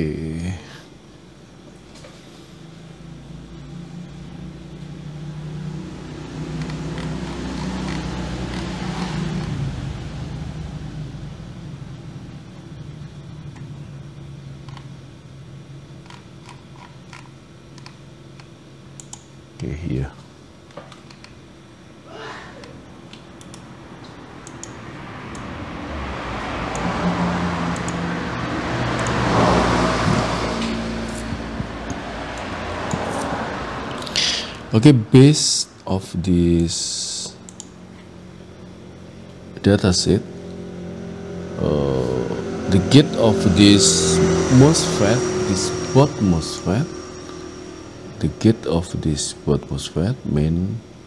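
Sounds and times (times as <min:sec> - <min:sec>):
low engine-like hum: 0:00.0 - 0:51.0
road noise: 0:01.0 - 0:18.3, 0:23.4 - 0:51.0.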